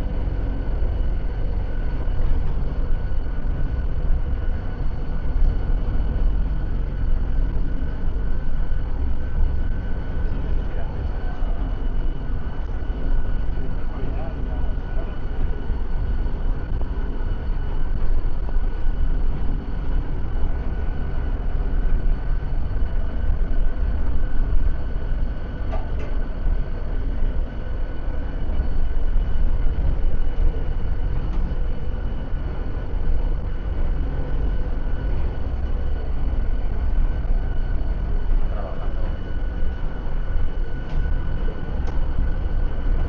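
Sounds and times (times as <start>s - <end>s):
high whine: 0.0s - 43.0s
lift low rumble: 0.0s - 43.0s.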